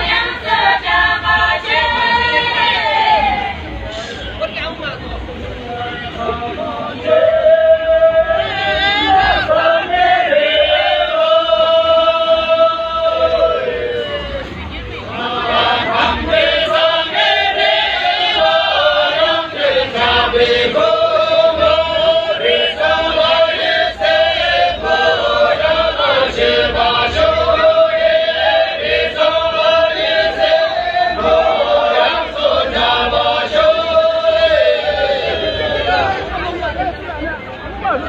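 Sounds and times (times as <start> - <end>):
group singing in unison: 0.0 - 3.7, 6.2 - 14.2, 15.1 - 36.3.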